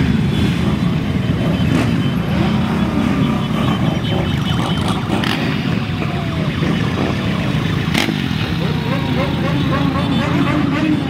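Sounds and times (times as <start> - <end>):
many motorcycle engines droning: 0.0 - 11.0
motorcycle engines revving: 0.0 - 11.0.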